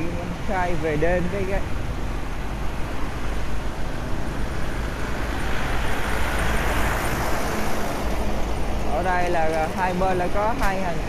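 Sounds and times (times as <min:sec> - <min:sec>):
traffic rumble from inside vehicle: 0:00.0 - 0:11.0.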